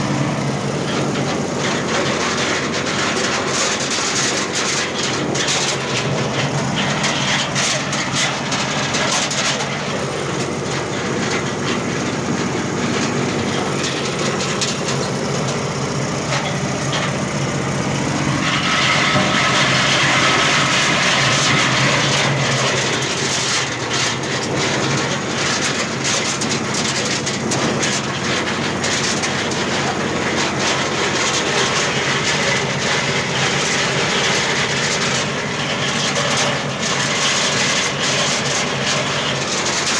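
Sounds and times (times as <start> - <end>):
dense rattling: 0.0 - 39.9
machine droning: 0.0 - 39.9.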